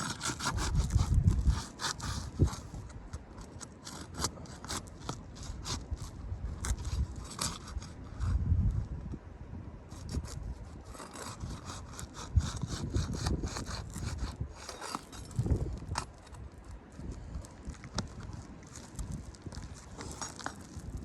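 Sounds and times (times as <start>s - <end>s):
shingle scraping and crackling: 0.0s - 8.5s, 9.9s - 21.0s.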